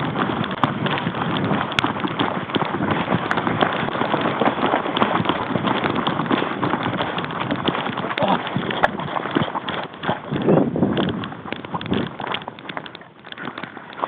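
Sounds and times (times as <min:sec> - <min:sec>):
running footsteps on rough ground: 0:00.0 - 0:14.0.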